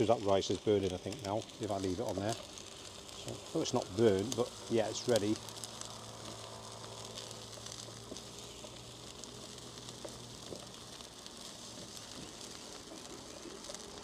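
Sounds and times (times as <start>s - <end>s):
food sizzling on griddle: 0.0s - 14.0s.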